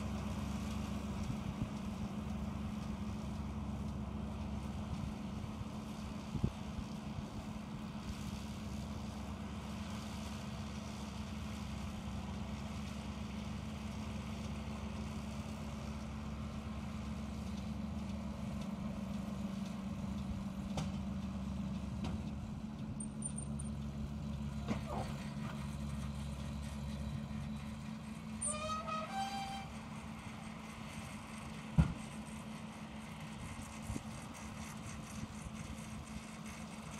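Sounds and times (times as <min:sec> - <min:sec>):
round baler baling: 0:00.0 - 0:36.9
tractor diesel engine running: 0:00.0 - 0:36.9.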